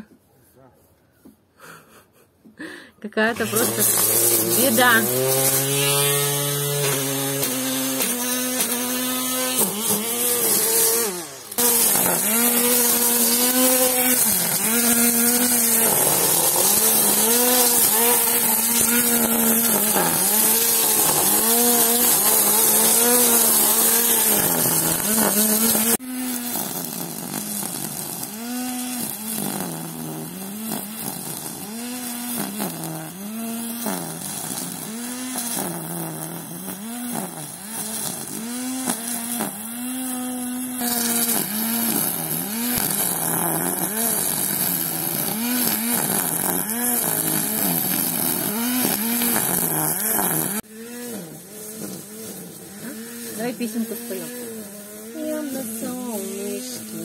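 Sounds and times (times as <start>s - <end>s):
string trimmer cutting grass: 1.2s - 57.0s.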